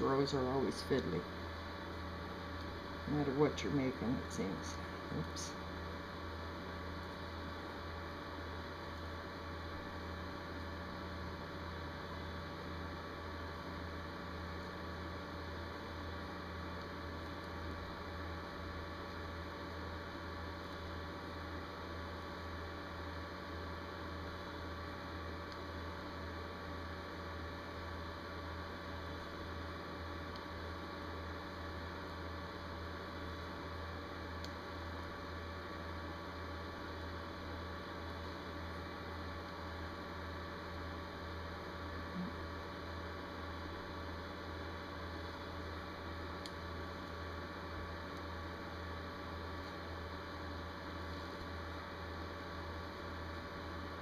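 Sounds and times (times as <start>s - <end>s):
low electrical hum: 0.0s - 54.0s.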